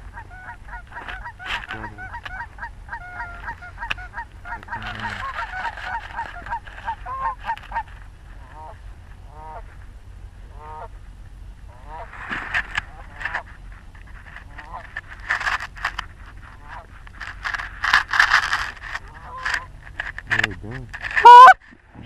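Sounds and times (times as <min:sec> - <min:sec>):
geese honking: 0:00.0 - 0:09.7, 0:10.4 - 0:11.0, 0:11.7 - 0:13.6, 0:14.3 - 0:21.6.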